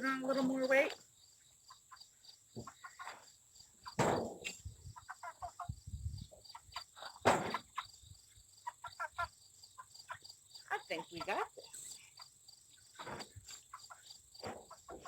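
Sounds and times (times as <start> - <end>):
insects chirping: 0.0 - 15.0
chicks peeping: 2.6 - 15.0.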